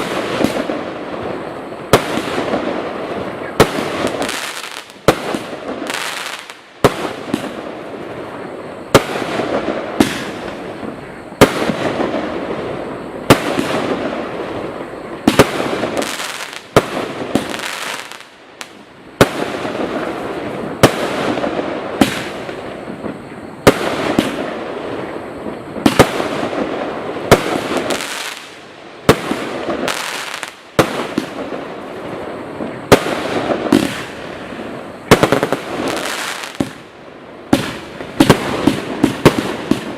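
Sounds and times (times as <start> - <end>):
firework bangs: 0.0 - 39.9
firework rushing and crackling: 0.0 - 39.9.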